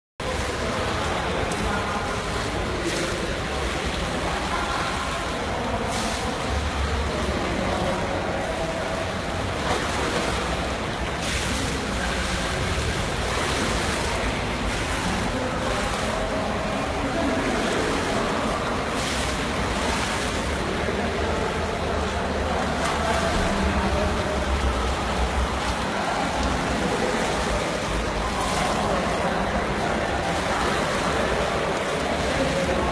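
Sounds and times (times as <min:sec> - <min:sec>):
pool water splashing: 0:00.2 - 0:32.9.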